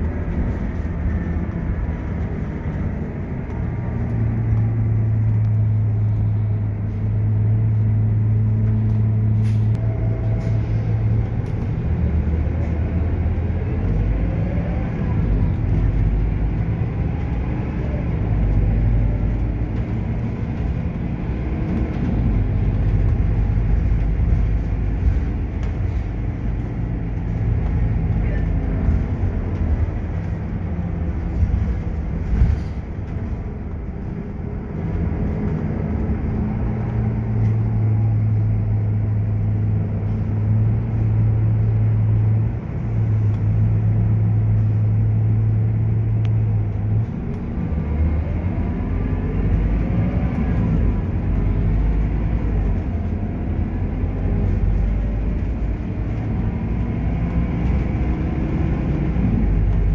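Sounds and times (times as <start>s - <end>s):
bus diesel engine drone: 0.0s - 59.9s
road rumble: 0.0s - 59.9s.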